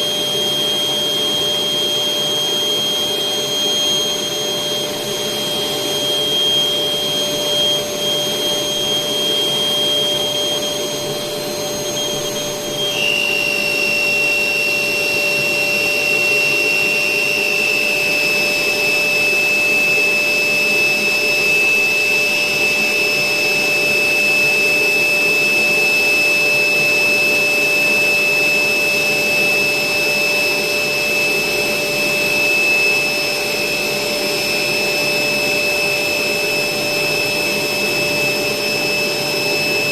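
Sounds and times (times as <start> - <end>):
electric air blower whining: 0.0 - 39.9.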